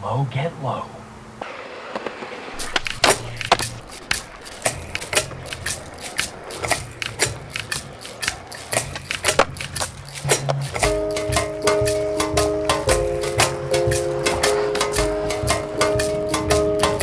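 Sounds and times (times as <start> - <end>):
skateboard wheels rolling on concrete: 1.3 - 17.0
skateboard clacking on ground: 1.4 - 17.0.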